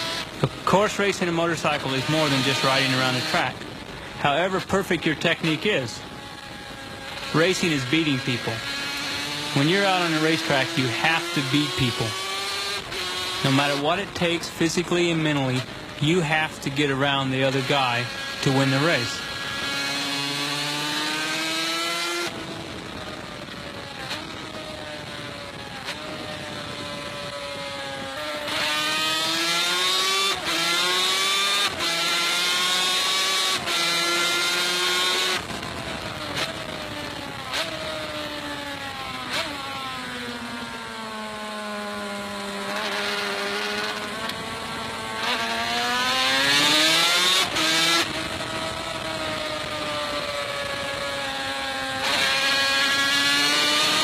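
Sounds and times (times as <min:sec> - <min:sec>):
racing motorcycle engine revving: 0:00.0 - 0:54.0.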